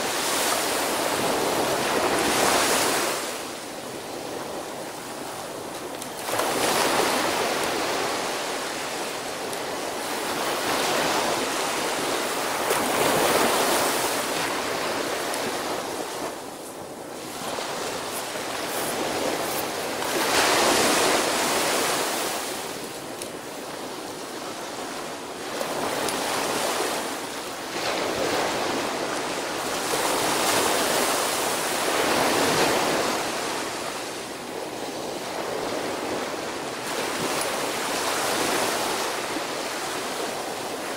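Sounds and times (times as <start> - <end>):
small waves breaking on beach: 0.0 - 40.9.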